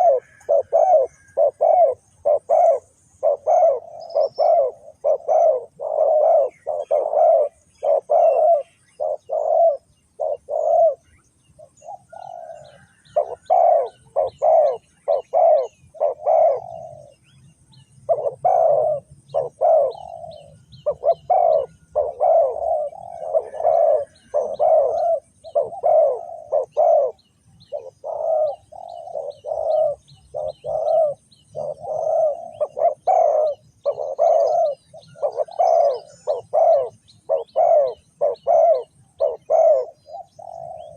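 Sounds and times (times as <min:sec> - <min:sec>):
dove cooing: 0:00.0 - 0:40.9
small birds chirping: 0:00.0 - 0:40.9.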